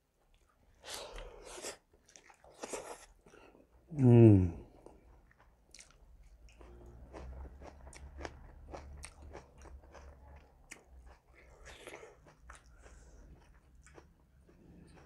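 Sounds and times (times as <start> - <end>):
man chewing food: 0.0 - 3.9, 4.6 - 15.0.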